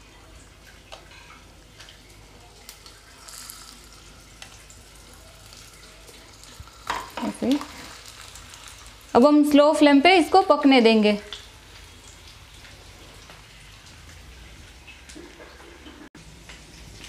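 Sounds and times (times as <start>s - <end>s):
peppers sizzling in oil: 1.0s - 15.3s.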